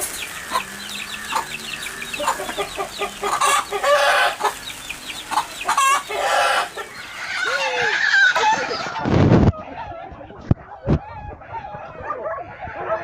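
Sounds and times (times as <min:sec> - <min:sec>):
chicks peeping: 0:00.0 - 0:13.0
hen clucking and calling: 0:00.0 - 0:13.0.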